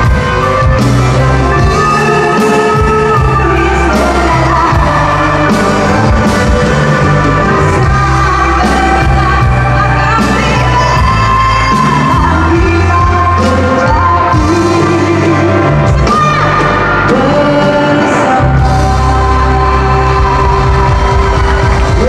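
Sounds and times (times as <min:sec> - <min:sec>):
rock band playing: 0:00.0 - 0:22.0
woman singing: 0:00.0 - 0:22.0.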